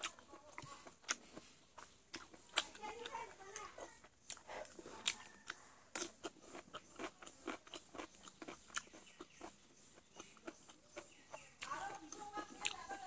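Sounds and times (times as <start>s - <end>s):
chewing with crunches: 0.0s - 13.0s.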